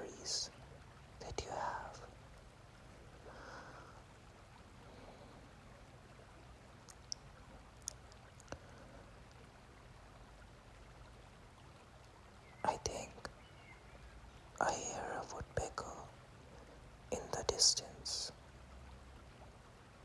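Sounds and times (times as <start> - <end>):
stream flowing: 0.0 - 12.6, 16.1 - 20.0.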